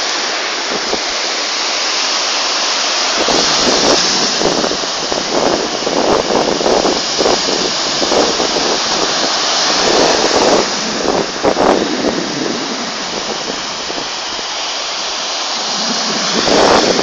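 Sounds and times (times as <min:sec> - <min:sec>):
surf washing on beach: 0:00.0 - 0:17.0
wind buffeting microphone: 0:00.5 - 0:01.3, 0:03.0 - 0:17.0.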